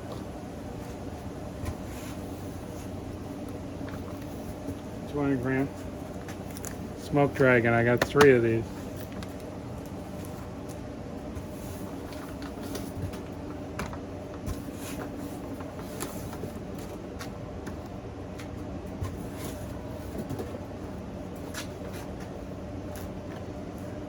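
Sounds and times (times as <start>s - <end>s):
background hum: 0.0s - 24.0s.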